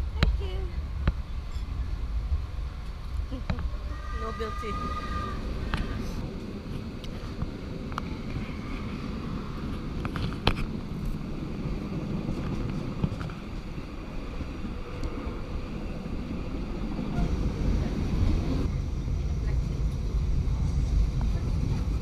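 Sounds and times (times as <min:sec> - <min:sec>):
train rumbling along track: 0:00.0 - 0:22.0
wind buffeting microphone: 0:00.0 - 0:22.0.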